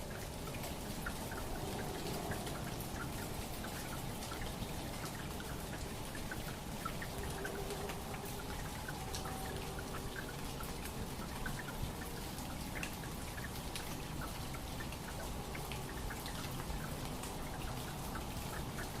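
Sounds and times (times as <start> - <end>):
small water drips: 0.0 - 19.0
trickling water: 0.0 - 19.0.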